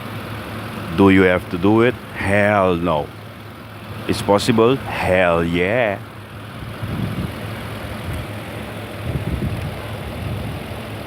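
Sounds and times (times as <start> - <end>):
car engine idling: 0.0 - 11.0
low rumbling: 0.0 - 11.0.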